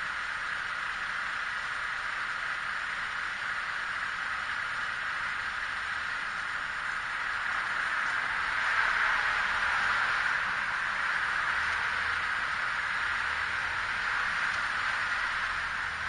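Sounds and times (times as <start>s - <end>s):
truck idling hiss: 0.0s - 16.0s.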